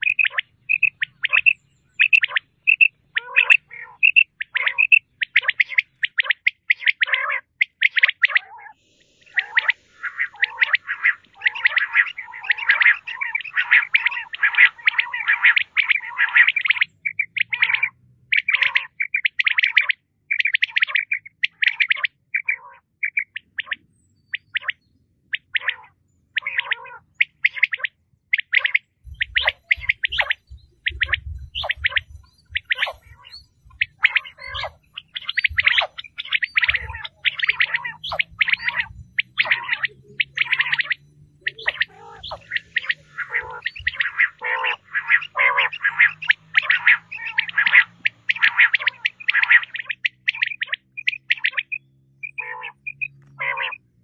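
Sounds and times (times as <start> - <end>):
quail calling: 0.0 - 53.9.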